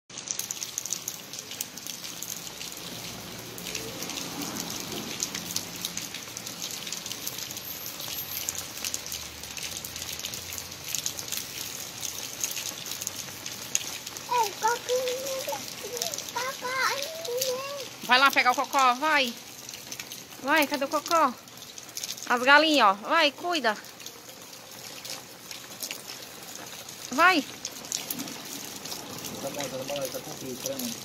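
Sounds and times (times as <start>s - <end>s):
rain on wet pavement: 0.1s - 31.0s.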